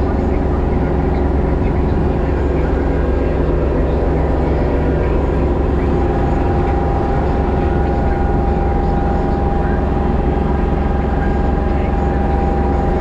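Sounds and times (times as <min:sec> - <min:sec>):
thin high whine: 0:00.0 - 0:13.0
tractor diesel engine running: 0:00.0 - 0:13.0.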